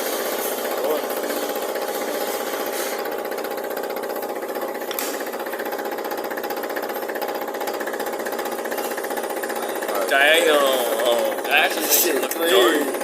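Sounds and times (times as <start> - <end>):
milling machine cutting metal: 0.0 - 13.0.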